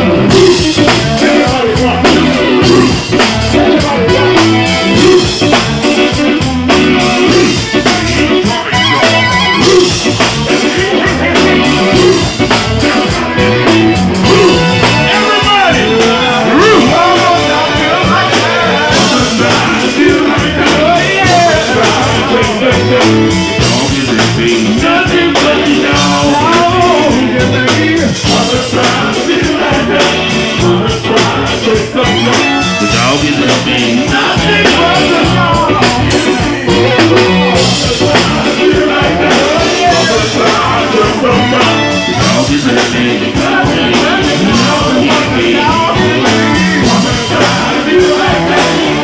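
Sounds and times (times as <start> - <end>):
funk band playing: 0.0 - 49.0
people singing: 0.0 - 49.0.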